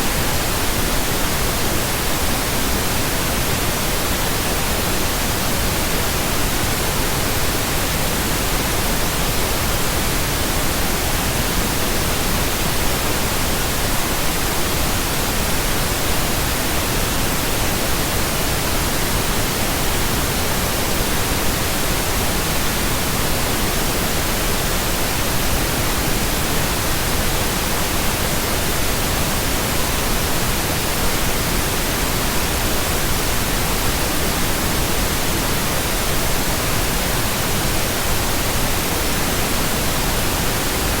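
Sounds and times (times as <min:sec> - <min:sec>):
pink noise hiss: 0:00.0 - 0:41.0.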